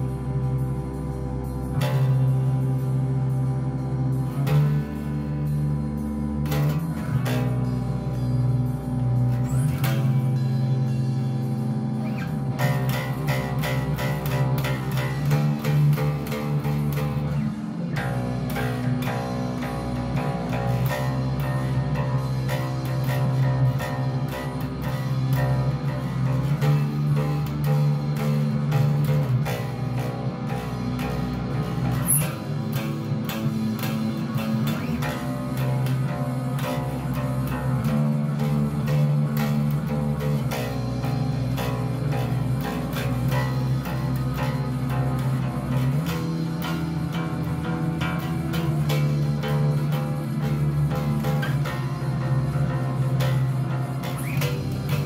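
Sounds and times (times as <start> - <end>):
drums steady beat: 0.0 - 55.0
electric bass guitar riff: 0.0 - 55.0
guitars: 0.0 - 55.0
sharp rhythmic hits: 0.0 - 55.0.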